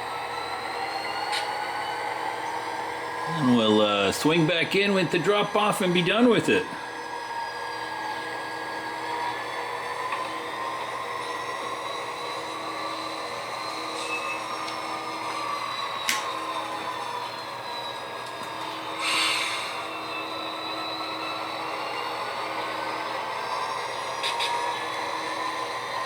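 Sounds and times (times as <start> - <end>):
model locomotive whining tones: 0.0 - 26.0.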